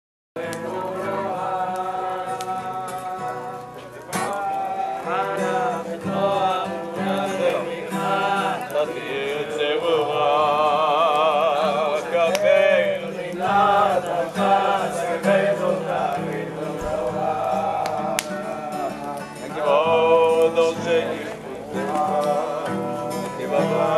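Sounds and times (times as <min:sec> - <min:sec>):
person singing with vibrato: 0:00.4 - 0:23.9.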